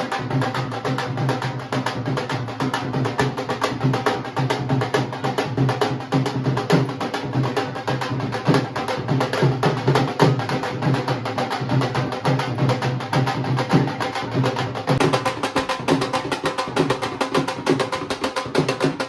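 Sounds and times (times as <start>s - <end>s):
music with busy percussion beat: 0.0s - 19.0s.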